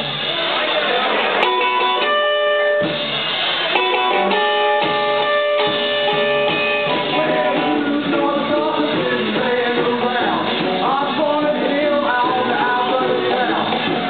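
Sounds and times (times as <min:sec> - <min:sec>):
bass guitar: 0:00.0 - 0:14.0
electric guitar chords: 0:00.0 - 0:14.0.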